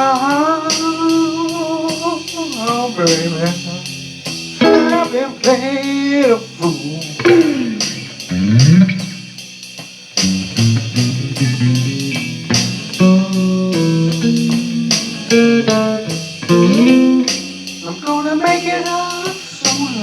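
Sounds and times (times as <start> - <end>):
blues guitar fill: 0.0 - 20.0.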